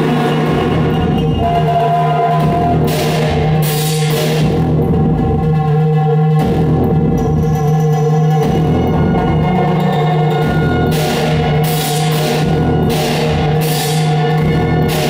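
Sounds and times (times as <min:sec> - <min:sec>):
electronic noise music: 0:00.0 - 0:15.0.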